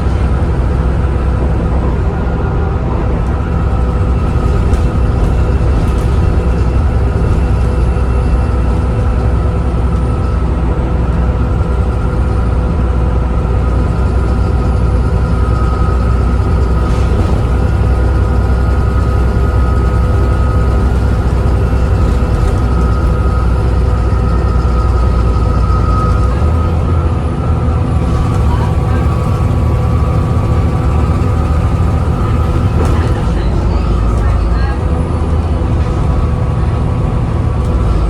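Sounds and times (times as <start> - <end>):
bus diesel engine droning: 0.0 - 38.0.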